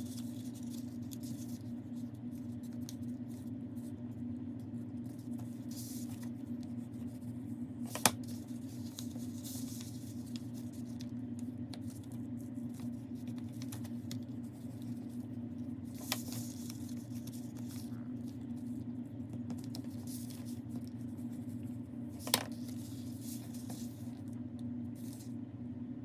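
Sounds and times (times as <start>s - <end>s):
paper rustling and crinkling: 0.0s - 25.3s
steady low hum: 0.0s - 26.0s.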